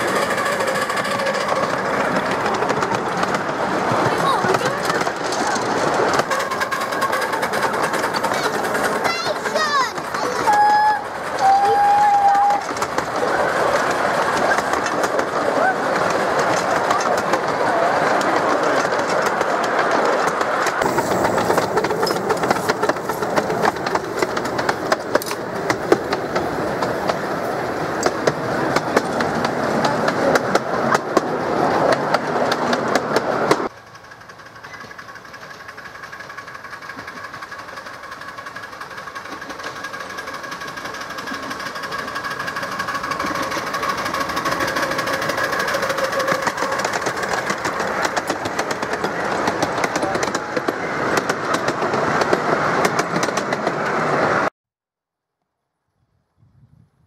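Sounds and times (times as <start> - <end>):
steam locomotive running: 0.0 - 54.5
train wheels clattering on track: 0.0 - 54.5.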